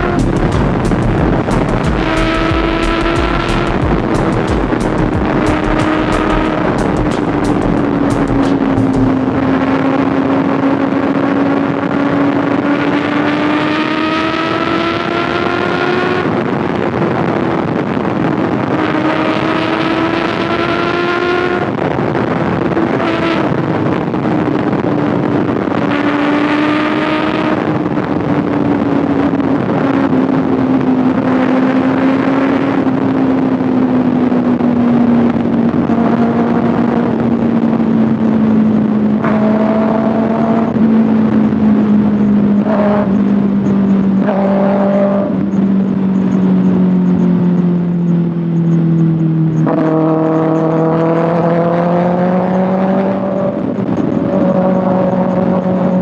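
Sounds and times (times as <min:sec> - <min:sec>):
motorcycle engine droning: 0:00.0 - 0:56.0
wind rush on microphone: 0:00.0 - 0:56.0.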